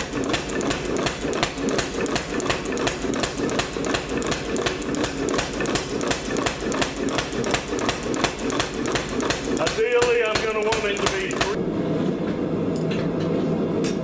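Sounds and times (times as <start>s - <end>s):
power hammer striking metal: 0.0s - 11.6s
machine humming: 0.0s - 13.9s.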